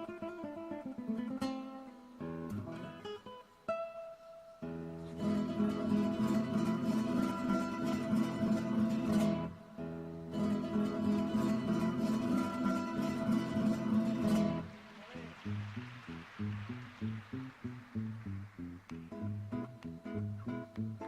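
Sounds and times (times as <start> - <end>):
flamenco acoustic guitar strumming: 0.0 - 21.0.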